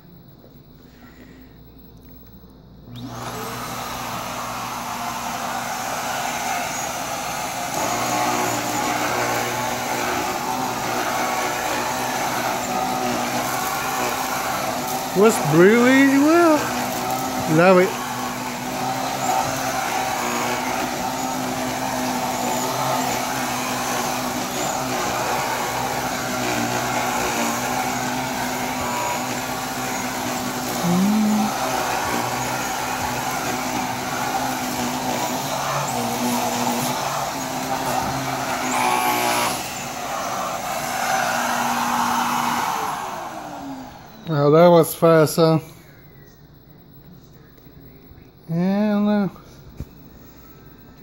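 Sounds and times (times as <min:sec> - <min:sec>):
vacuum cleaner running: 0:02.9 - 0:45.3.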